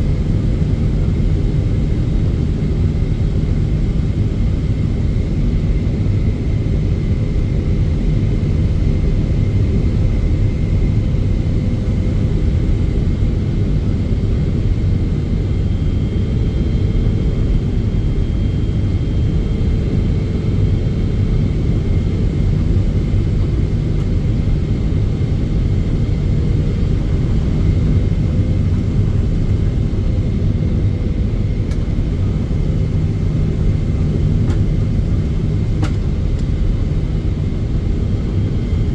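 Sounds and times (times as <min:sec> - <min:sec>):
airliner cabin low rumble: 0:00.0 - 0:38.9.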